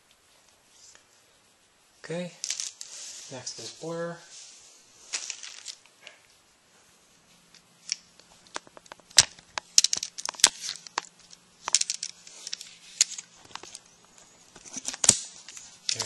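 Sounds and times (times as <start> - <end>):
crinkly rustles: 2.2 - 6.5, 7.1 - 16.0.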